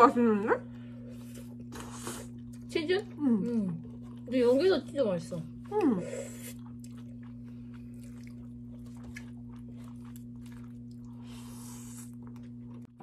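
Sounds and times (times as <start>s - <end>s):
chewing pizza: 0.0s - 13.0s
steady low hum: 0.0s - 13.0s.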